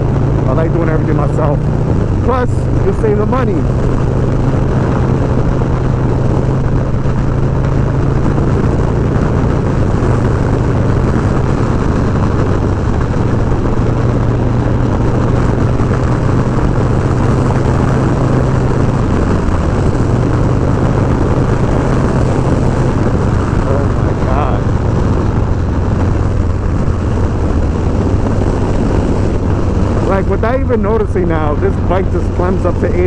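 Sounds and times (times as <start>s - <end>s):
motorcycle engine drone: 0.0s - 33.0s
wind rush: 0.0s - 33.0s.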